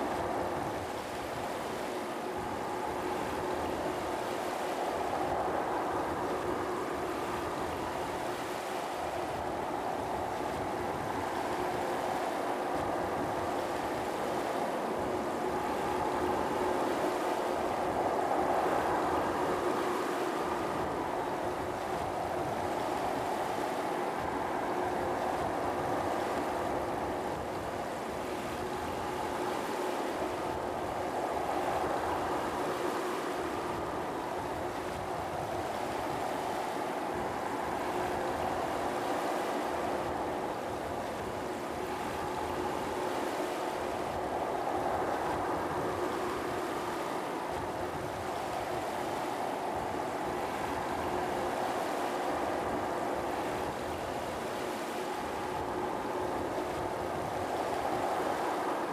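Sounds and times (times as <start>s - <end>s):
jet engines running: 0.0s - 58.9s.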